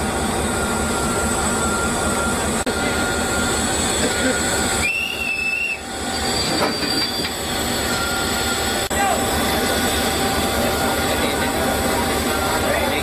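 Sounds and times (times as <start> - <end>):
train noise: 0.0 - 13.0
steel wheels squealing: 0.6 - 13.0.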